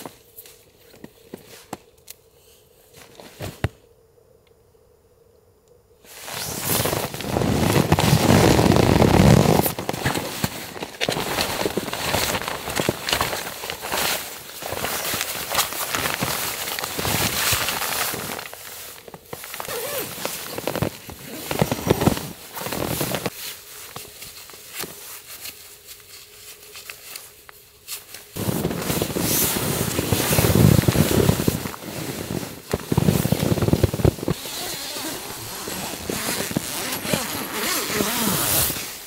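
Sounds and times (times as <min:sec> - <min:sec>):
nylon fabric rustling: 0:06.1 - 0:39.0.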